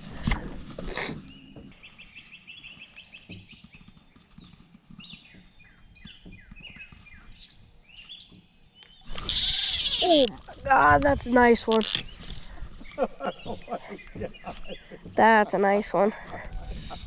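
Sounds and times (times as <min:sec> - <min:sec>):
songbirds singing: 0:01.0 - 0:17.0.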